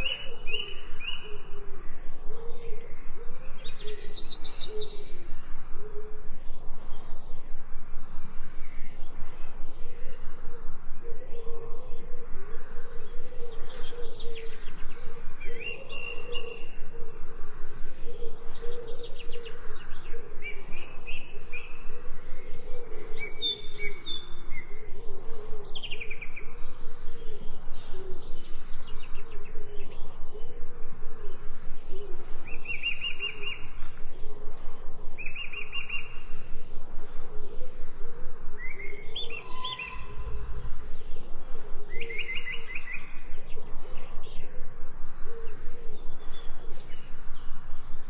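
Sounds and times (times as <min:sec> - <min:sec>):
songbirds chirping and singing: 0:00.0 - 0:48.0.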